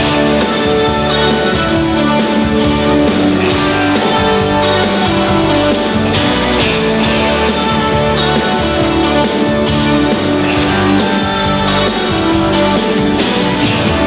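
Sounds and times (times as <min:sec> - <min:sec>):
drum kit beat: 0:00.0 - 0:14.0
electric guitar: 0:00.0 - 0:14.0.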